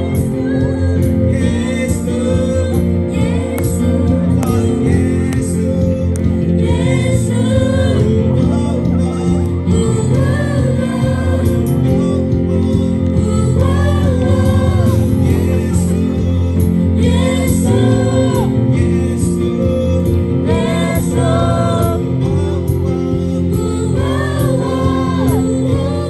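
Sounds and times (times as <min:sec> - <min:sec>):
drums: 0:00.0 - 0:26.0
electric guitar: 0:00.0 - 0:26.0
group singing into microphones: 0:00.0 - 0:26.0
keyboard: 0:00.0 - 0:26.0.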